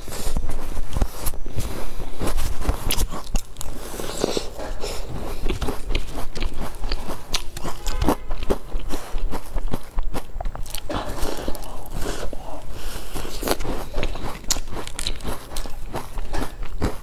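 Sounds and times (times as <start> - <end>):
biting and chewing cookie: 0.0 - 17.0.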